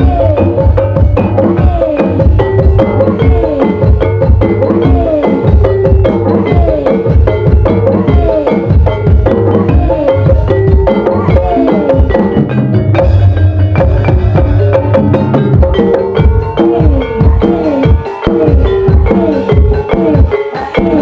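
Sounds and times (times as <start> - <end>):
busy percussion pattern: 0.0 - 21.0.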